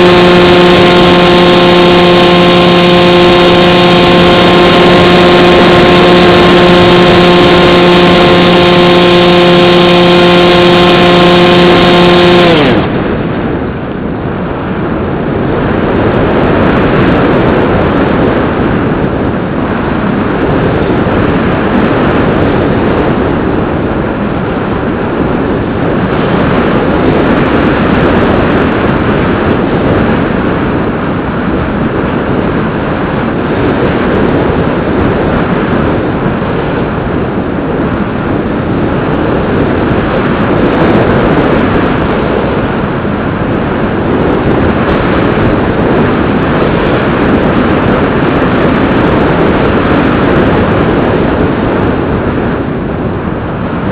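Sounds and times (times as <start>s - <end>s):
wind rushing past plane: 0.0s - 53.9s.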